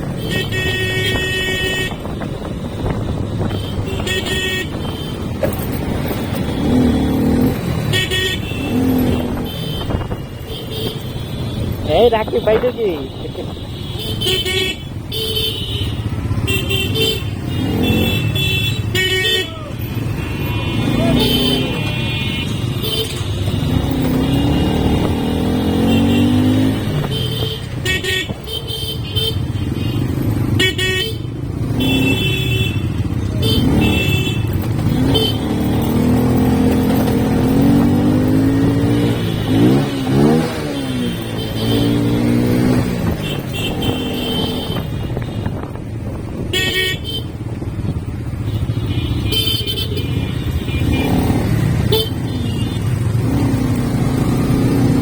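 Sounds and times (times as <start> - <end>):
vehicle horns honking: 0.0 - 47.6, 48.3 - 53.6.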